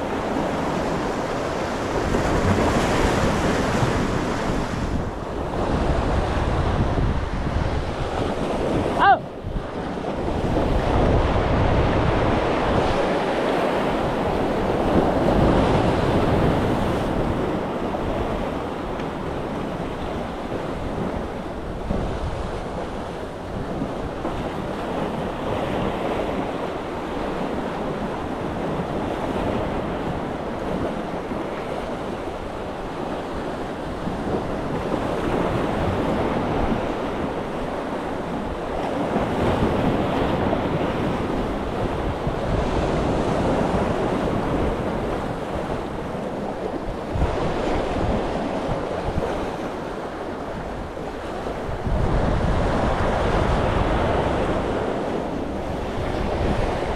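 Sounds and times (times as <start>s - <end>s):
sea waves breaking on seawall: 0.0s - 56.9s
wind buffeting microphone: 0.0s - 56.9s.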